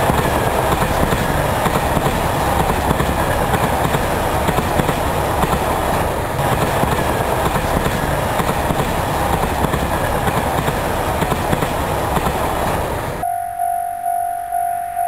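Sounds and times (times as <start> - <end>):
train wheels rumbling on rail: 0.0 - 13.2.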